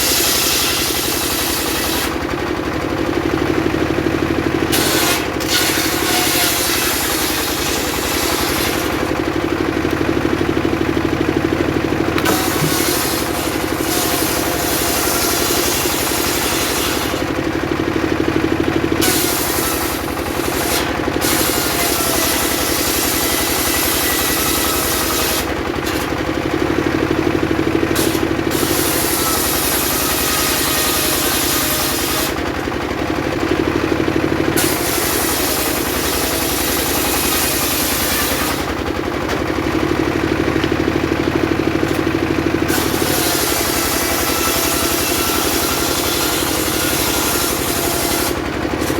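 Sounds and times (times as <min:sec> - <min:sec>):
saw engine running: 0:00.0 - 0:48.9.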